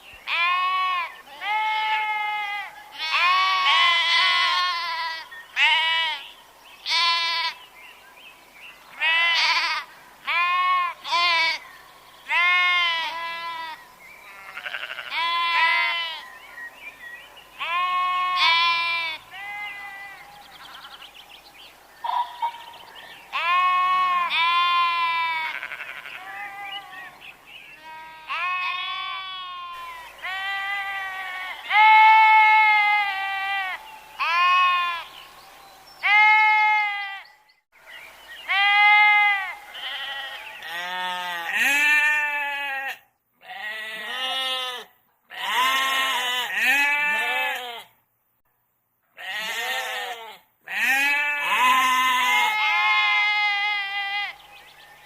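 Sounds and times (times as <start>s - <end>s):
sheep bleating: 0.3s - 7.6s, 9.0s - 11.6s, 12.3s - 16.3s, 17.6s - 20.9s, 23.3s - 27.1s, 27.7s - 35.1s, 36.0s - 37.3s, 38.5s - 47.9s, 49.2s - 54.4s.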